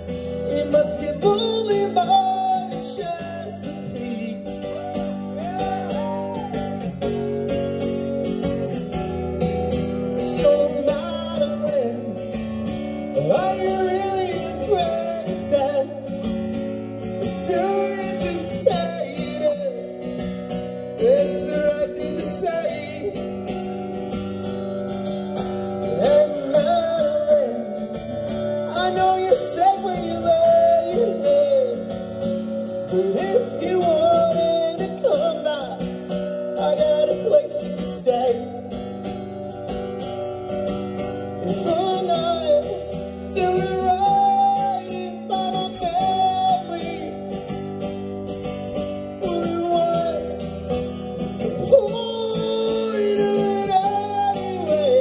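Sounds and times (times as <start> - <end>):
bass: 0.0 - 2.0, 2.6 - 55.0
strummed acoustic guitars: 0.0 - 55.0.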